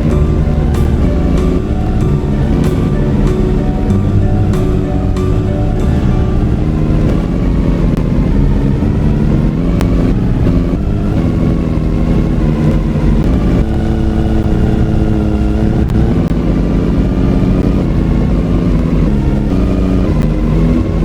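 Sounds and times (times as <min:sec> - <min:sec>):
music with low sustained tones: 0:00.0 - 0:21.0.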